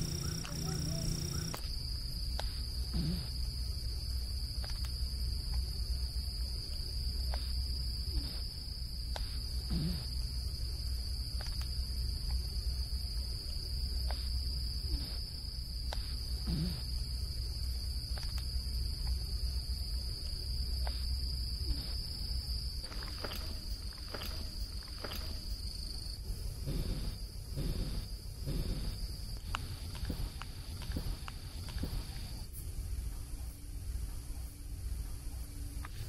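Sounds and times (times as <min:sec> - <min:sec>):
crickets chirring: 0:00.0 - 0:36.0
low hum: 0:00.0 - 0:36.0.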